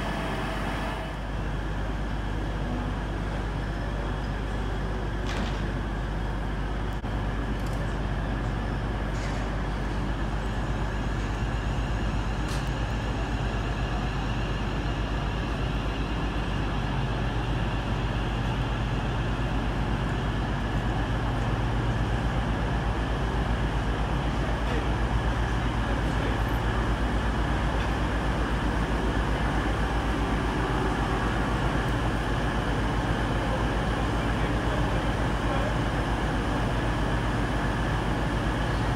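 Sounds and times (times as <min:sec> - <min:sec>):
train diesel engines droning: 0:00.0 - 0:38.9.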